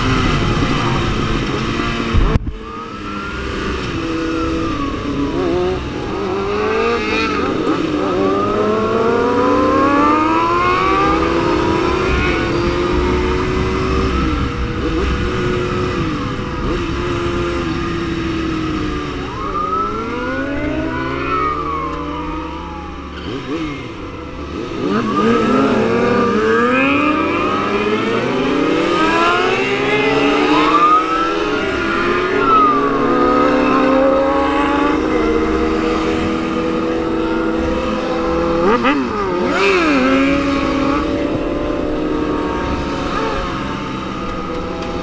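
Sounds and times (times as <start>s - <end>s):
motorcycle engines revving: 0.0s - 45.0s.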